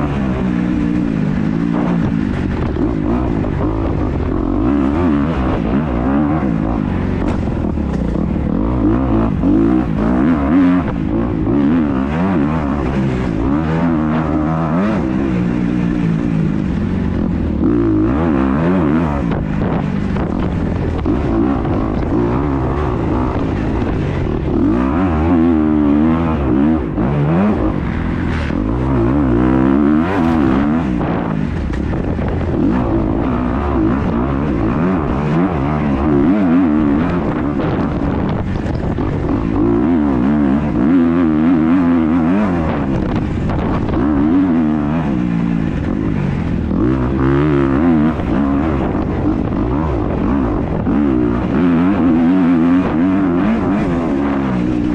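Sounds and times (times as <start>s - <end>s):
dirt bike engine revving: 0.0s - 54.9s
rushing wind: 0.0s - 54.9s.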